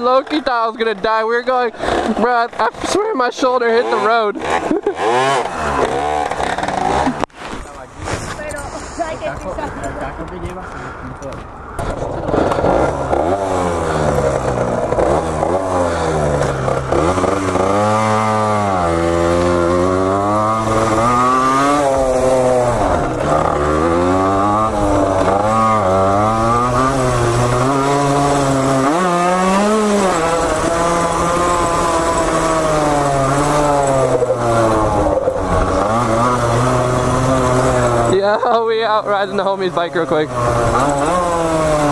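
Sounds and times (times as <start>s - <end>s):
dirt bike engine revving: 0.0s - 9.7s, 11.7s - 41.9s.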